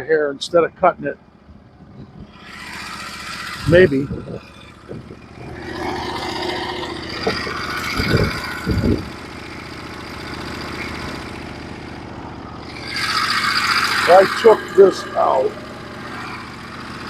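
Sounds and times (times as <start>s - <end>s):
sawmill engine idling: 0.0s - 17.0s.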